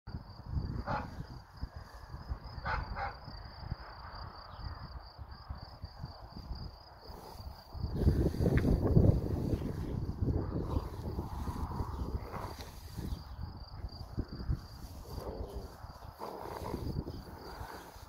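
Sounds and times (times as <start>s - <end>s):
wind rumbling on microphone: 0.1s - 18.0s
insects trilling: 0.3s - 18.0s.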